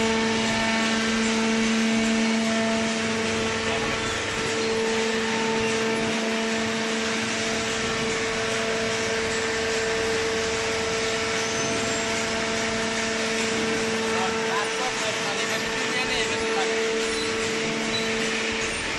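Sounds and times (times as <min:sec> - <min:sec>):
hydraulic power unit humming: 0:00.0 - 0:18.9.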